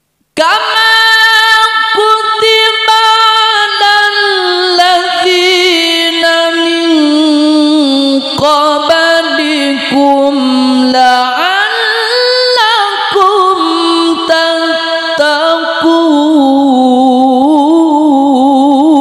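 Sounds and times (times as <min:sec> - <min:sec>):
man chanting recitation: 0:00.4 - 0:19.0.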